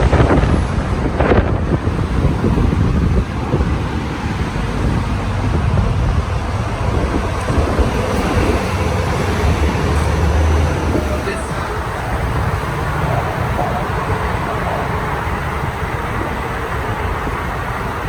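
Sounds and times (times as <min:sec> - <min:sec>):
road traffic: 0:00.0 - 0:18.0
wind buffeting microphone: 0:00.0 - 0:18.0.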